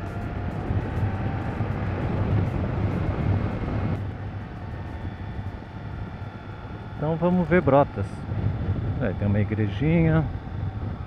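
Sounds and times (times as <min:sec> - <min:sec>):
motorcycle engine running: 0:00.0 - 0:11.0
road noise: 0:00.0 - 0:11.0
wind noise: 0:00.0 - 0:11.0.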